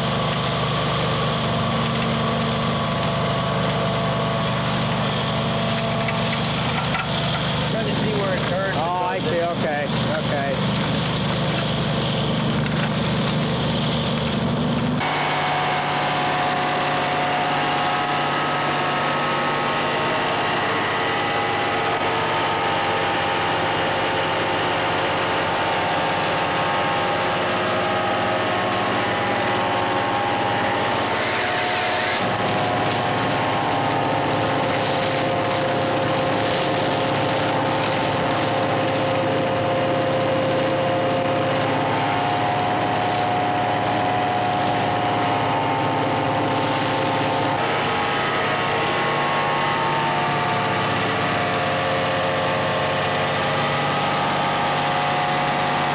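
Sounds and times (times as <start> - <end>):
engine and suction blower droning: 0.0 - 55.9.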